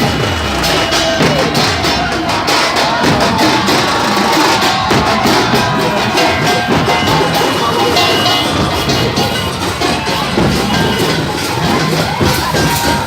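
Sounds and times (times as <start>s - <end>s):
driving drum beat: 0.0s - 13.0s
loud music: 0.0s - 13.0s.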